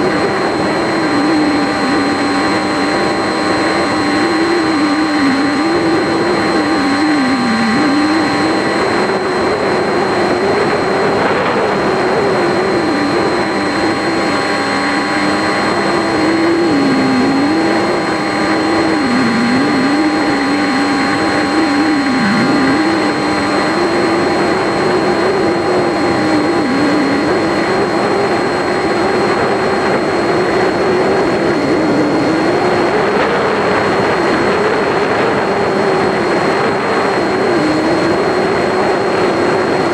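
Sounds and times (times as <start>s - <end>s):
model plane motor droning: 0.0s - 39.9s
thin high whine: 0.0s - 39.9s.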